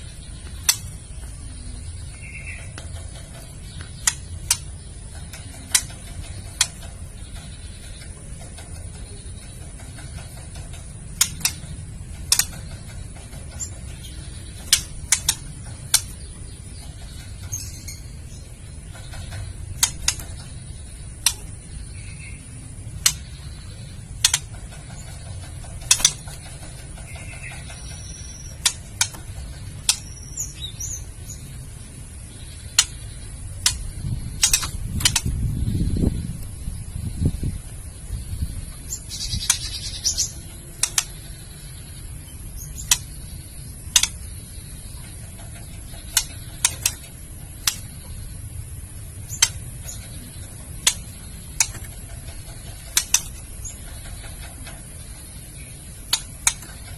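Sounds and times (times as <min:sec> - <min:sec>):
bird clicking calls: 0:00.0 - 0:31.6, 0:32.2 - 0:35.4, 0:38.9 - 0:56.9.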